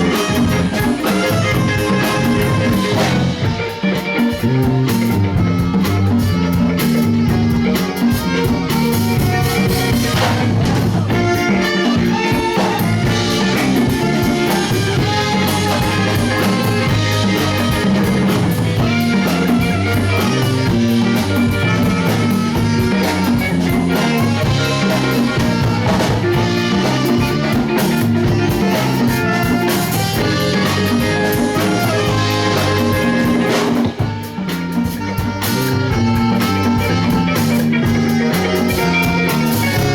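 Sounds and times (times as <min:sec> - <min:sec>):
guitar: 0:00.0 - 0:39.9
live band music: 0:00.0 - 0:39.9.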